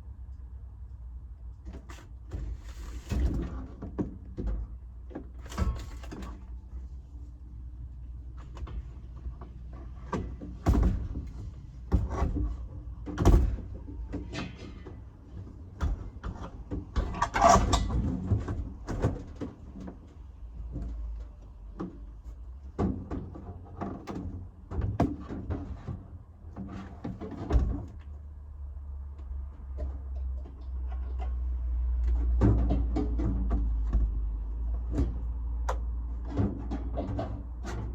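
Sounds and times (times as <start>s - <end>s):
knocks and clunks of handling: 1.6s - 6.9s, 8.3s - 28.2s, 29.1s - 37.9s.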